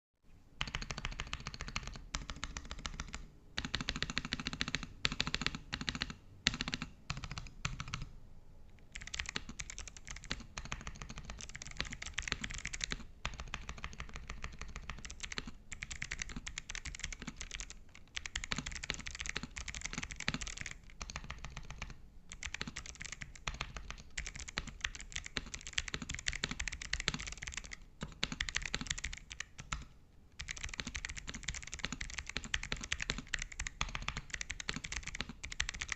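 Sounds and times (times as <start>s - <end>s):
fast typing on mechanical keyboard: 0.6s - 8.1s, 8.8s - 35.9s.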